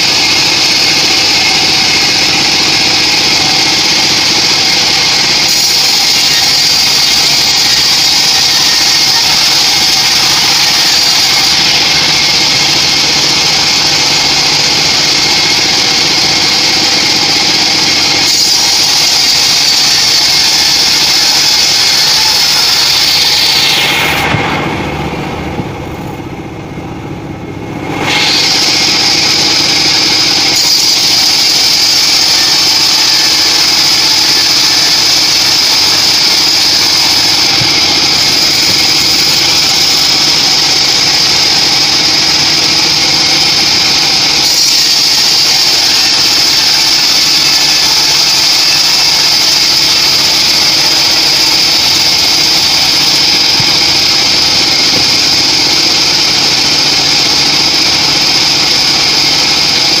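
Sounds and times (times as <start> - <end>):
band saw blade whining: 0.0 - 60.0.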